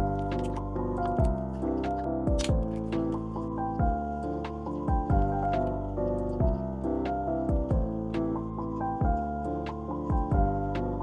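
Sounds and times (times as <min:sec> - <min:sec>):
soft held chords: 0:00.0 - 0:11.0.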